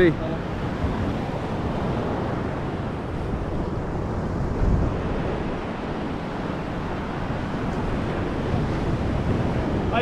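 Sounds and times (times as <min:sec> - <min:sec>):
surf washing: 0:00.0 - 0:10.0
wind buffeting microphone: 0:00.0 - 0:10.0.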